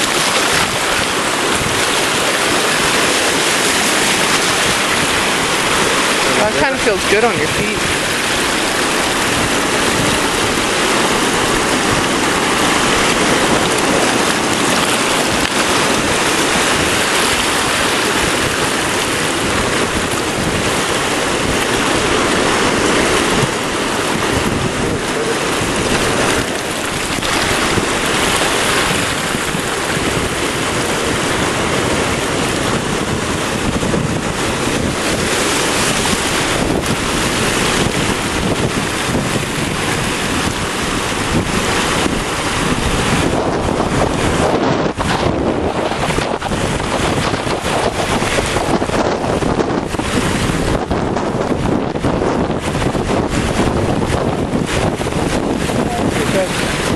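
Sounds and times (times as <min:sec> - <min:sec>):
ocean surf on rocky shore: 0:00.0 - 0:56.9
wind buffeting microphone: 0:00.0 - 0:56.9.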